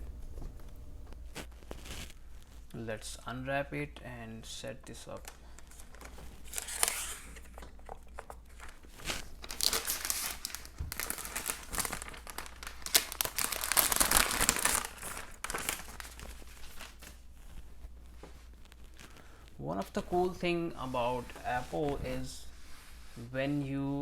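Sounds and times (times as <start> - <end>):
protective wrapping crinkling: 0.2 - 2.8, 5.1 - 22.0.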